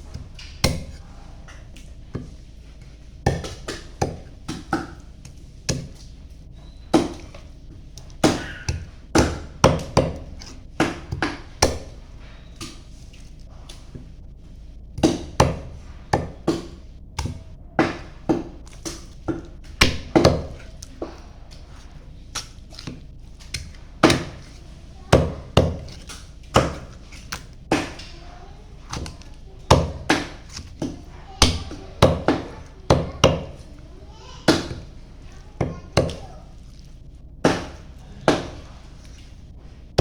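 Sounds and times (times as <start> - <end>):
knife chopping chicken: 3.2 - 14.0, 15.0 - 39.3.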